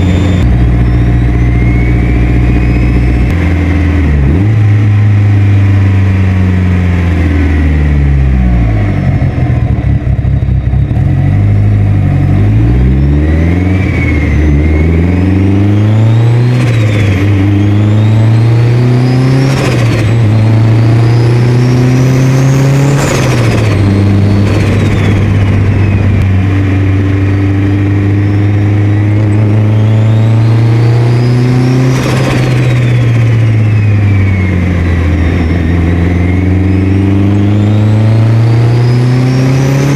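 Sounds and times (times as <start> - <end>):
turbocharged car engine revving: 0.0 - 39.9.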